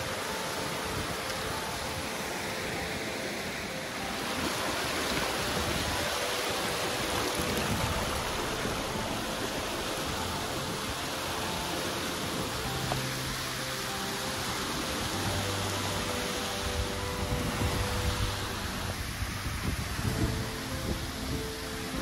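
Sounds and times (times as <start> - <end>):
mountain stream rushing water: 0.0 - 22.0.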